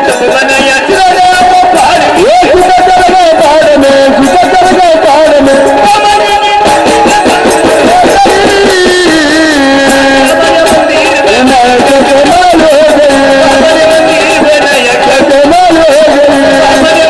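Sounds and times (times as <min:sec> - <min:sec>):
percussion beat: 0:00.0 - 0:17.0.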